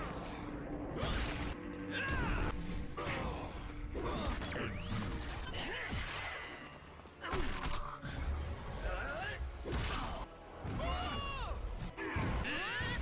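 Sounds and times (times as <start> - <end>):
dramatic background music: 0.0 - 13.0.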